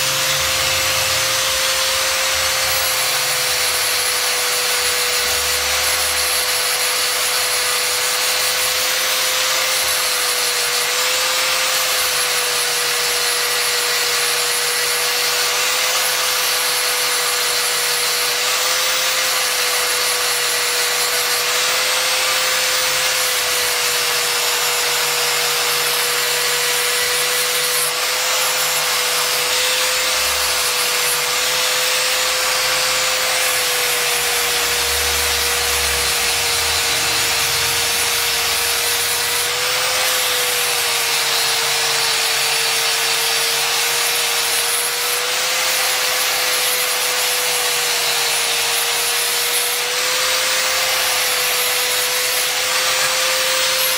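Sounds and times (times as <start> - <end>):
abrasive rasping on wood: 0.0 - 53.9
angle grinder motor whine: 0.0 - 53.9.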